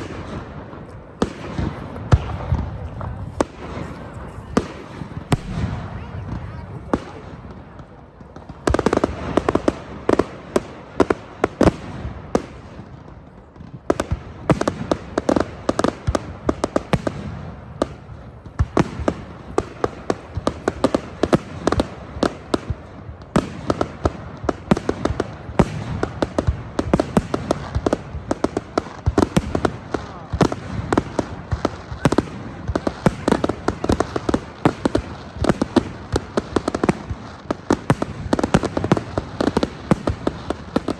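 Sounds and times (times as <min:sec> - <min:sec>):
aerial fireworks exploding: 0:00.0 - 0:40.9.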